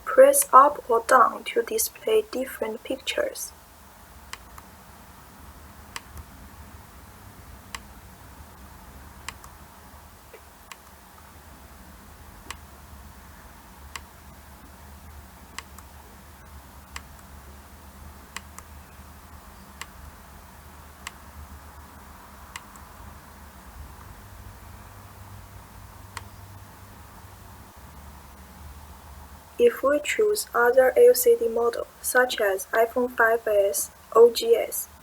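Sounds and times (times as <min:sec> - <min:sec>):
faint steady low hum: 0:00.0 - 0:35.0.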